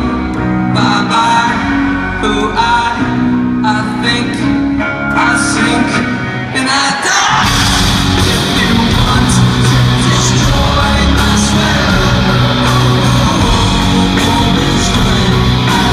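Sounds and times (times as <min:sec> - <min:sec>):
rock music with singing: 0:00.0 - 0:15.9.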